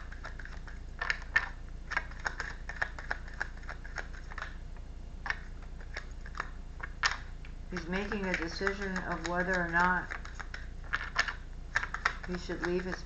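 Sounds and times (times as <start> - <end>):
cards being shuffled: 0.0 - 4.6, 5.2 - 13.0.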